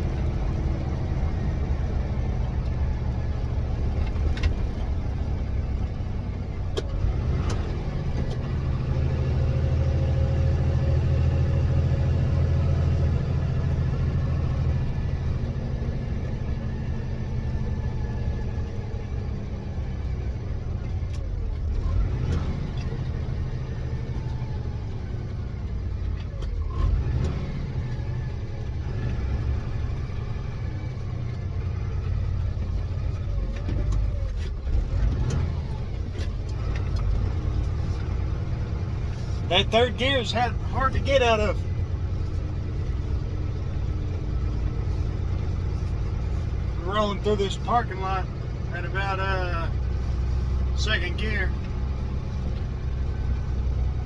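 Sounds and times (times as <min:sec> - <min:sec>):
diesel truck engine under load: 0:00.0 - 0:54.0.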